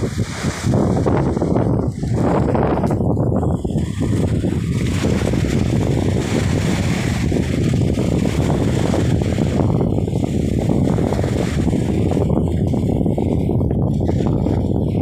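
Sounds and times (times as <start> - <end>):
small waves washing on sand: 0.0 - 15.0
wind buffeting microphone: 0.0 - 15.0.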